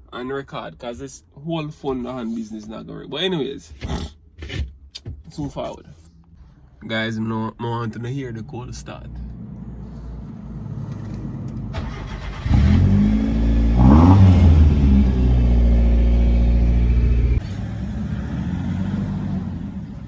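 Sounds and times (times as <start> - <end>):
car engine starting and idling: 0.2 - 20.0.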